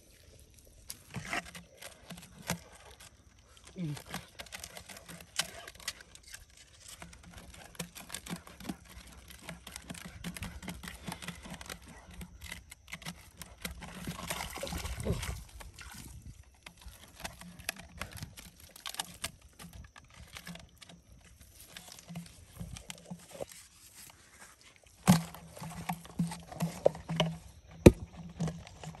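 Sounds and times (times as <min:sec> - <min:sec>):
plastic clicks and crinkles: 0:00.8 - 0:14.4, 0:16.6 - 0:29.0.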